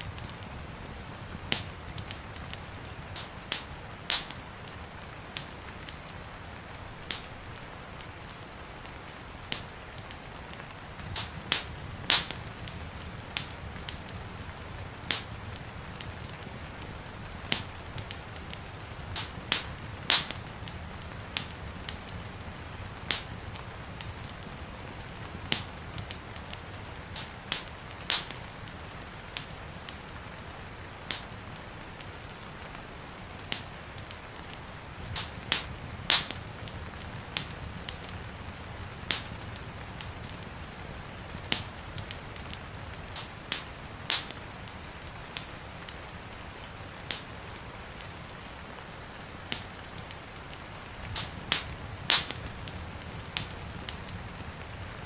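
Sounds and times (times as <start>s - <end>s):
fireplace fire crackling: 0.0s - 55.0s
gentle rain: 0.0s - 55.0s.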